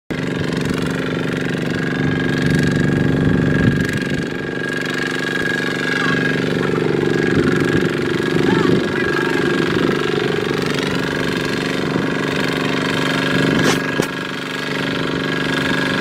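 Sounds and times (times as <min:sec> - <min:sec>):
diesel engine knocking chug: 0:00.1 - 0:16.0.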